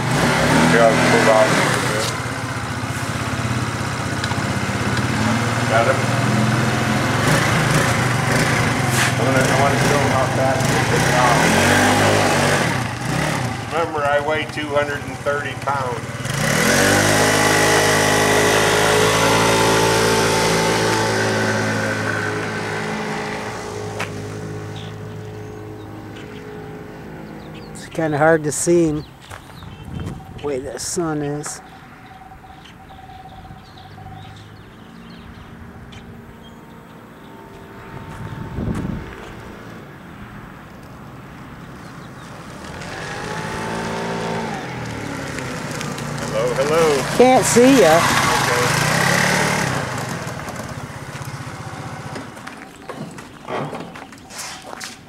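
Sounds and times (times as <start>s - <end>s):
scooter engine pulling away: 0.0s - 28.0s, 31.7s - 54.8s.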